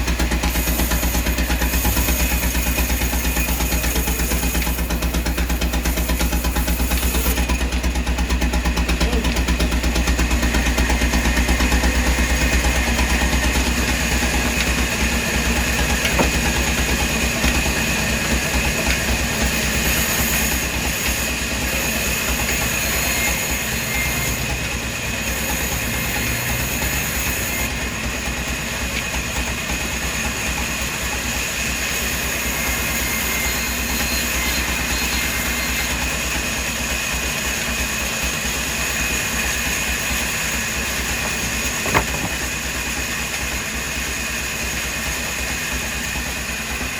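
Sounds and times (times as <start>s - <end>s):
heavy machinery droning: 0.0s - 46.9s.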